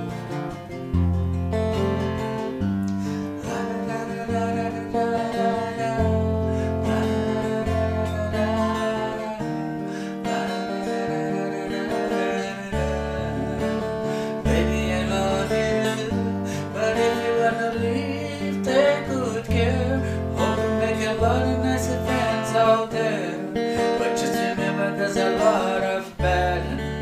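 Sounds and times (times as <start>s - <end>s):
acoustic guitar strumming: 0.0s - 27.0s
person singing: 2.8s - 27.0s.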